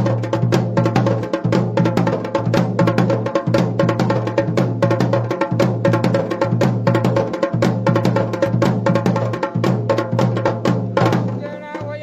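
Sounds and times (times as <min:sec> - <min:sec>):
paired folk drums playing: 0:00.0 - 0:12.0.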